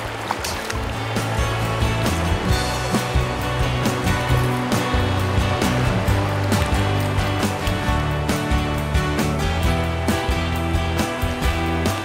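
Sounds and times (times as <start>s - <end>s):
background music with beat: 0.7s - 12.0s.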